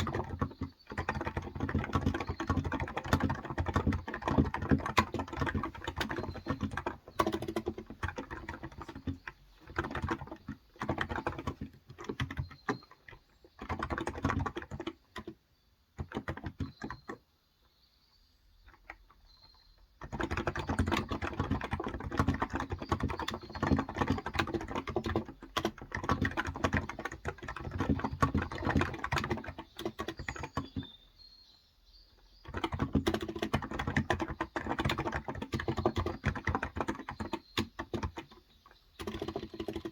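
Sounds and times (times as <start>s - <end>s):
keyboard typing: 0.0s - 17.2s, 20.0s - 30.9s, 32.4s - 39.9s
faint birds chirping: 0.0s - 39.9s.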